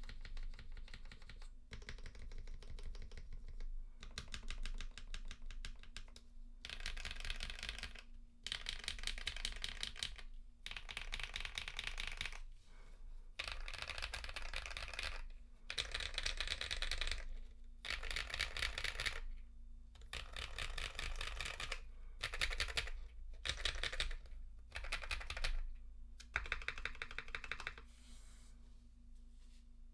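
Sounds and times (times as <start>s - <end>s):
mechanical keyboard typing: 0.0s - 12.4s, 13.4s - 19.3s, 20.0s - 27.8s.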